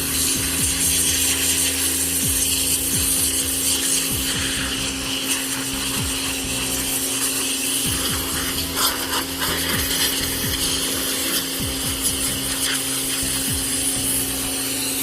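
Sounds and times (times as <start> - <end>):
pressure washer motor hum: 0.0 - 15.0
water jet hissing: 0.0 - 15.0.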